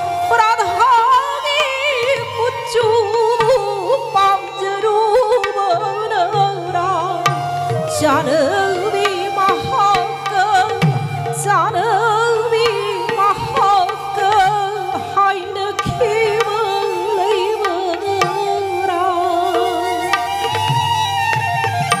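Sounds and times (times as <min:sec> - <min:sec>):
woman singing: 0:00.0 - 0:21.6
violin and flute melody: 0:00.0 - 0:22.0.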